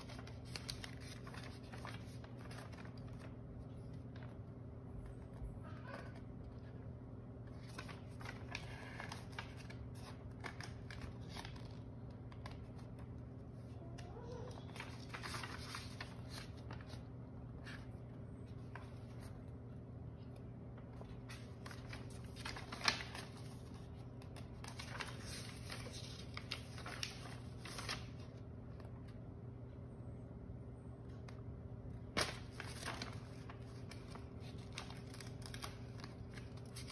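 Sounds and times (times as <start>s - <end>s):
paper rustling: 0.0s - 29.2s, 31.1s - 36.9s.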